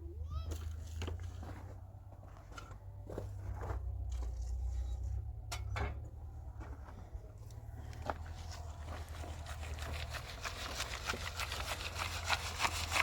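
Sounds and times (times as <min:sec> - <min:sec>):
soil and grit crunching and scraping: 0:00.3 - 0:13.0.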